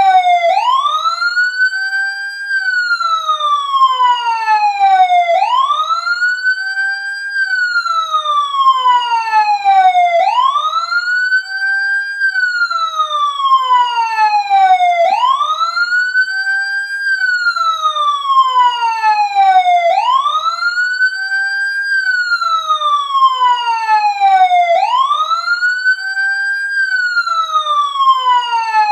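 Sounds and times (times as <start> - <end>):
wailing siren ringtone: 0.0 - 28.9.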